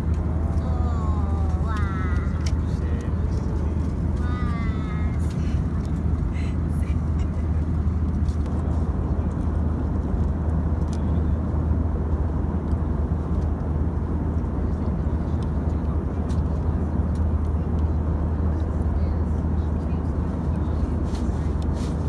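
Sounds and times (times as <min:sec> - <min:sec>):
vehicle low rumble: 0:00.0 - 0:22.0.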